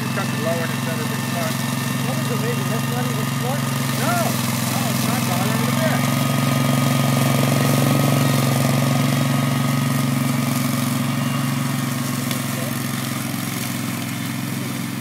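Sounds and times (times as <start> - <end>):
mower engine running: 0.0 - 15.0.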